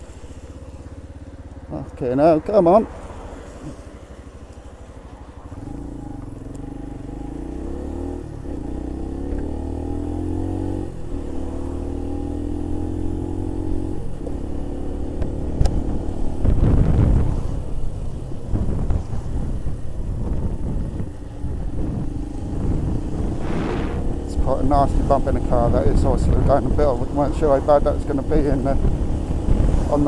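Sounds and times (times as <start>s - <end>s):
motorcycle engine accelerating: 0.0s - 30.0s
wind and road noise: 0.0s - 30.0s.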